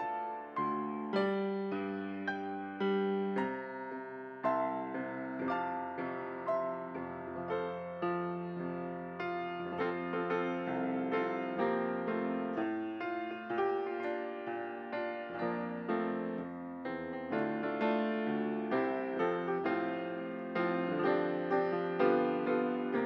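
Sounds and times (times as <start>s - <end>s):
piano playing slow gentle chords: 0.0s - 23.0s.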